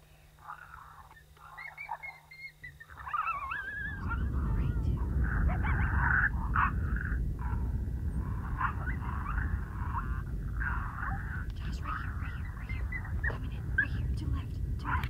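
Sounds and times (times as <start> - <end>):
coyotes yipping and howling: 0.3 - 15.0
wind rumbling on microphone: 2.6 - 15.0.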